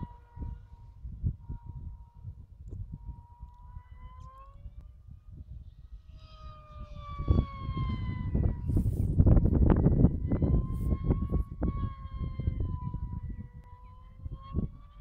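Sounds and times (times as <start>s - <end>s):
low rumbling noise: 0.0s - 15.0s
model plane motor whining: 0.0s - 15.0s.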